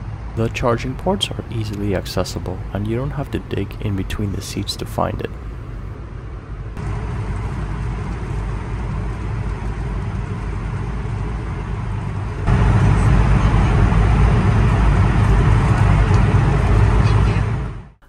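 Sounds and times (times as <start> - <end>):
airliner cabin engine and air noise: 0.0 - 18.0
low cabin hum: 0.0 - 18.0.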